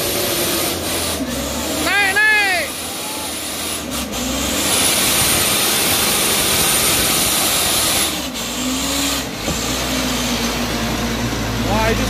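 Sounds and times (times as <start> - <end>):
truck diesel engine revving: 0.0 - 12.0.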